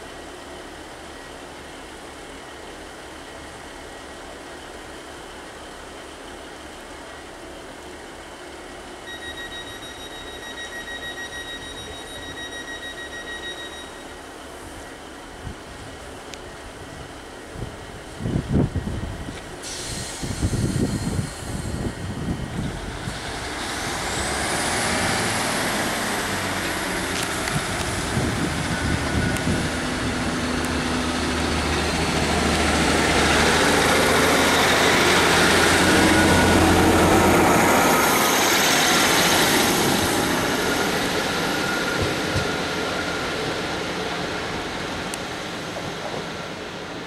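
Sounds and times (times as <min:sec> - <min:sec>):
diesel train pulling away: 0:00.0 - 0:47.0.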